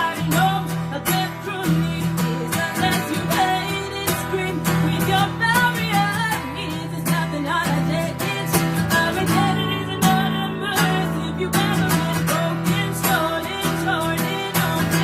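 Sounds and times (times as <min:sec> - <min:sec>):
strummed acoustic guitar: 0:00.0 - 0:15.0
woman singing: 0:00.0 - 0:15.0.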